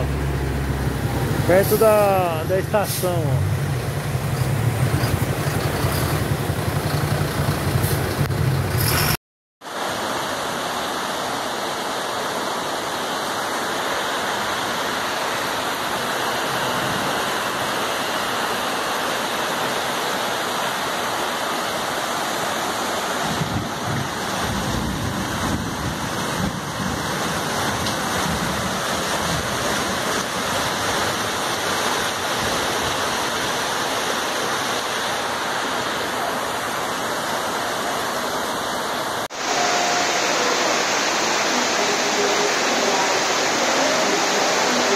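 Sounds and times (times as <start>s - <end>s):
floodwater rushing: 0.0s - 44.9s.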